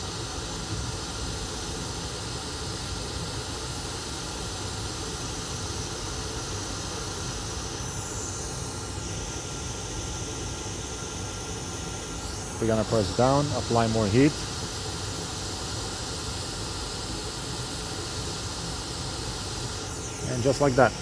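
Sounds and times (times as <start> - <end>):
hot air station hissing: 0.0 - 21.0.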